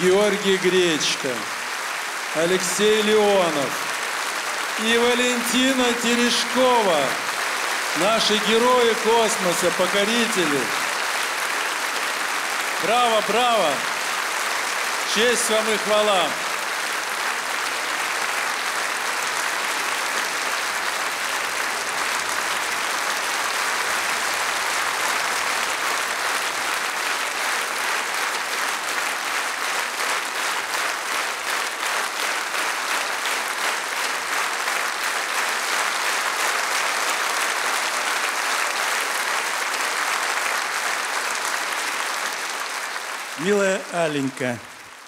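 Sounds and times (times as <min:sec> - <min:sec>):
audience applauding: 0:00.0 - 0:45.0.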